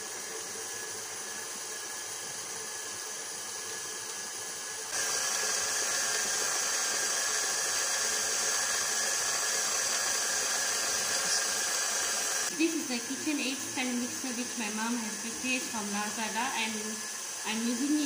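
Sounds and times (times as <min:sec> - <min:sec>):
stand mixer motor whirring: 0:00.0 - 0:18.0.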